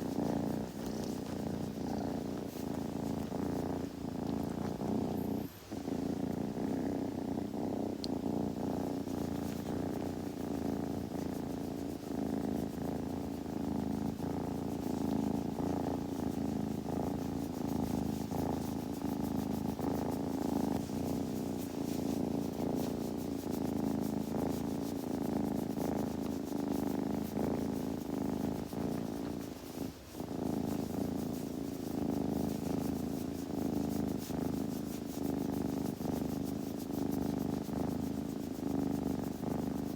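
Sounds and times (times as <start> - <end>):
kitten purring: 0.0 - 39.9.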